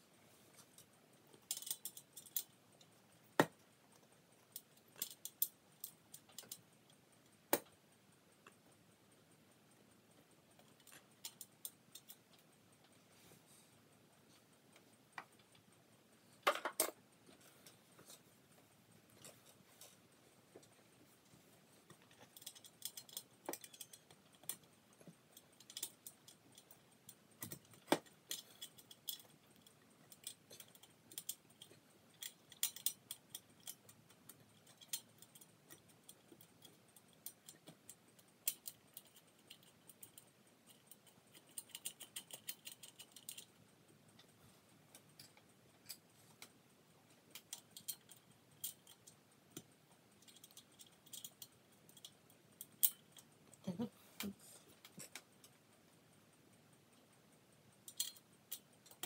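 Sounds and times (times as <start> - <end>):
light clicks and rattles: 0.0 - 59.0.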